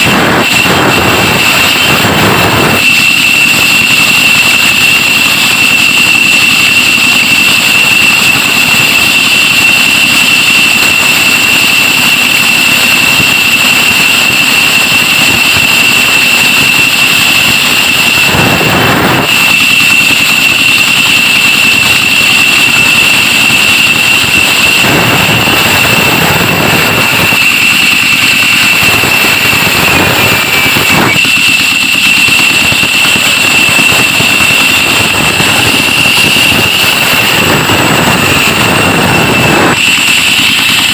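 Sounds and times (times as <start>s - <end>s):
rushes of noise: 0.0s - 40.9s
wood-cutting saw whining: 0.0s - 40.9s.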